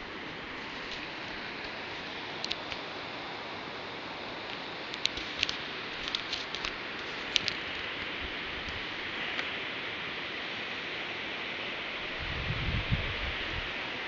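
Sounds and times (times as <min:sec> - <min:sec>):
steady outdoor rushing hiss: 0:00.0 - 0:14.0.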